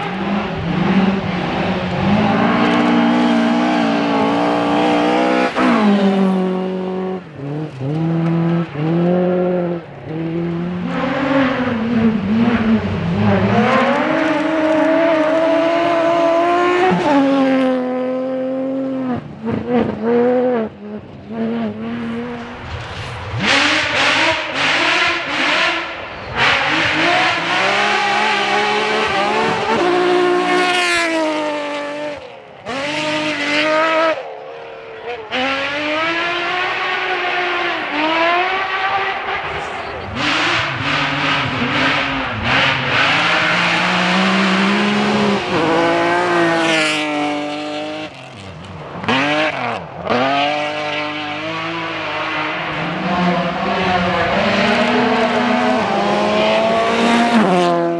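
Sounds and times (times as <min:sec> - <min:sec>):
rally car engine revving: 0:00.0 - 0:57.9.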